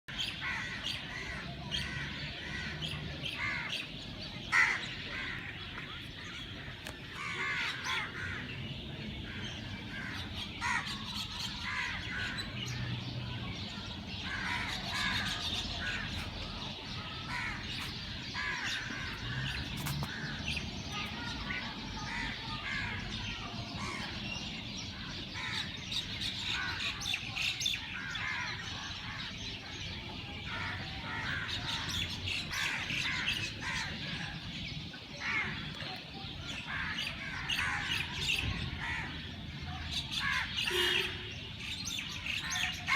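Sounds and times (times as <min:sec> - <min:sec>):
birds chirping and calling: 0:00.1 - 0:42.9.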